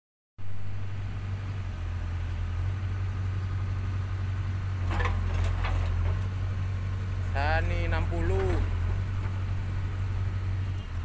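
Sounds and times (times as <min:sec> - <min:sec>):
diesel engine humming: 0:00.4 - 0:11.0.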